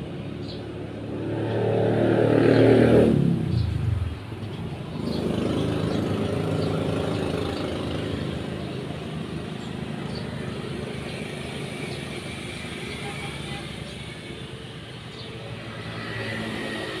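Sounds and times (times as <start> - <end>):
small birds chirping: 0.1 - 1.1, 3.5 - 16.7.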